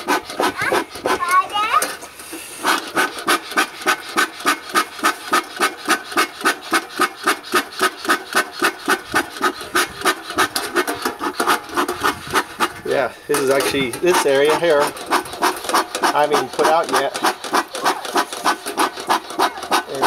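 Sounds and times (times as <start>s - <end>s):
bellows puffing air: 0.0s - 20.0s.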